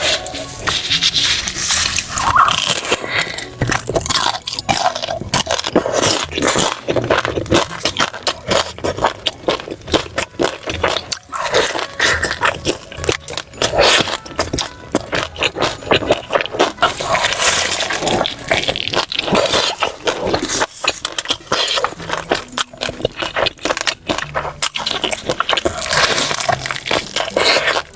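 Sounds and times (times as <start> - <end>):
crunching fried chicken: 0.0 - 27.9.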